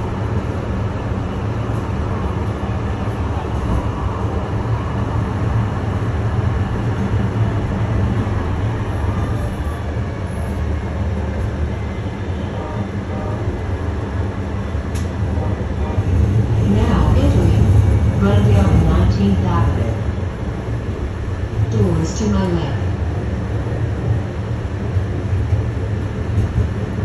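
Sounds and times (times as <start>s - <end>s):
rail car rumble: 0.0s - 27.0s.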